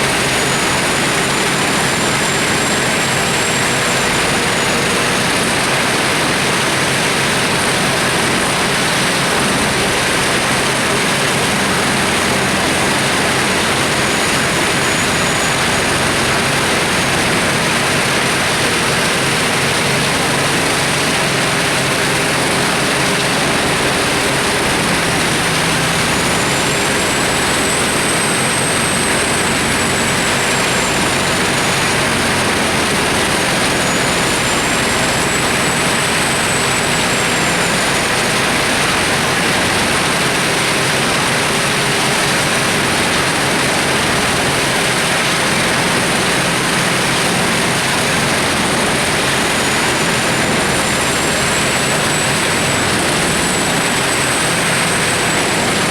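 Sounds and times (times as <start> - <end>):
wood chipper running: 0.0 - 55.9.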